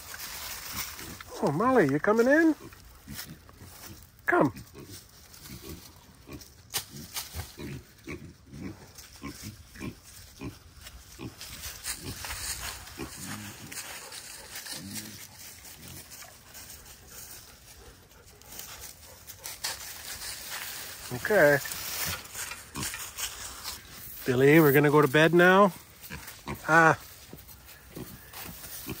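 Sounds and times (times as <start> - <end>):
pigs grunting: 0.6 - 24.0, 25.1 - 27.1, 27.7 - 29.0.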